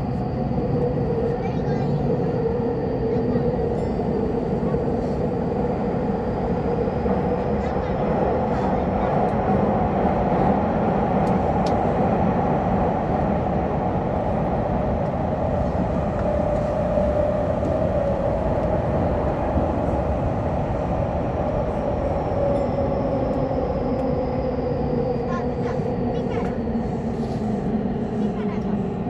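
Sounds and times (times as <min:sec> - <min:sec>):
train wheels rumbling on rail: 0:00.0 - 0:29.0
train whine: 0:00.0 - 0:29.0.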